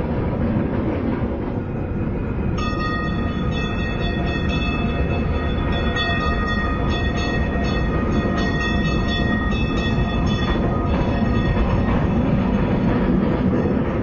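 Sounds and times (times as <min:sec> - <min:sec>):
streetcar rumbling on rails: 0:00.0 - 0:14.0
high steady tones: 0:02.5 - 0:14.0.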